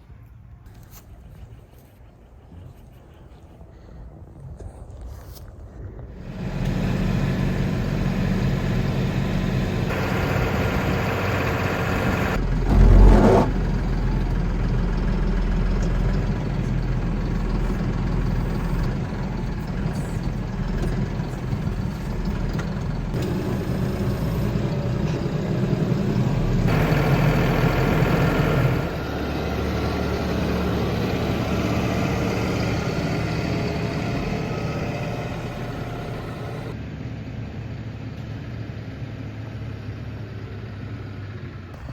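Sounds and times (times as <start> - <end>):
vehicle engine running: 6.2 - 36.8, 38.8 - 41.9.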